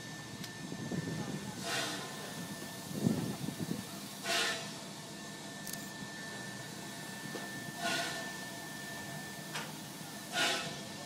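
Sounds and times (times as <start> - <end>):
steam hiss: 1.4 - 5.6, 6.2 - 11.0.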